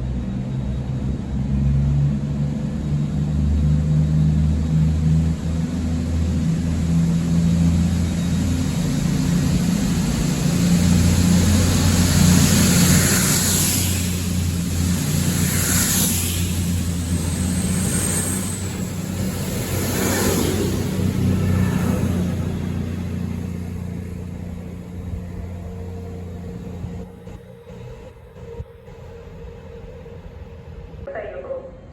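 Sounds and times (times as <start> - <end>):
train engine humming: 0.0 - 31.9.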